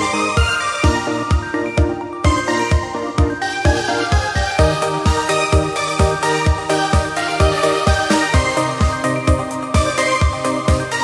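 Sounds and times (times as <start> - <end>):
electronic dance music: 0.0 - 11.0
kick drum: 0.0 - 11.0
synth chords: 0.0 - 11.0.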